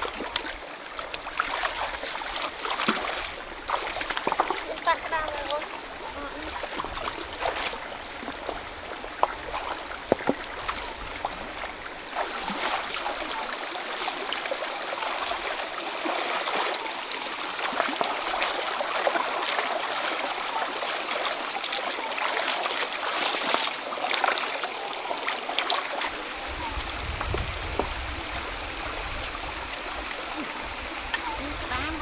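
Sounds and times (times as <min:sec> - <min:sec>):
splashing in water: 0:00.0 - 0:32.0
stream running over rocks: 0:00.0 - 0:32.0.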